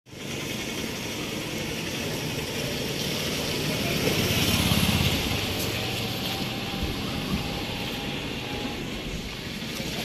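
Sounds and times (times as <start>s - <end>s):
vehicle engine running: 0.1s - 10.0s.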